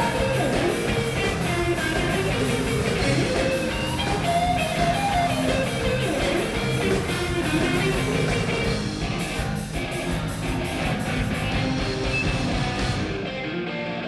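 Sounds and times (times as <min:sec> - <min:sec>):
drums keeping a beat: 0:00.0 - 0:13.4
guitar: 0:00.0 - 0:14.0
rock band instrumental: 0:00.0 - 0:14.0.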